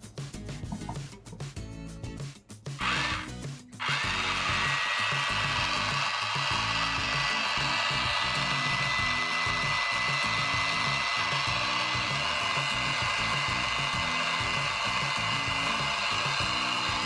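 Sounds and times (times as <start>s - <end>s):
background music: 0.0s - 17.0s
toy appliance whirring hiss: 2.7s - 17.0s.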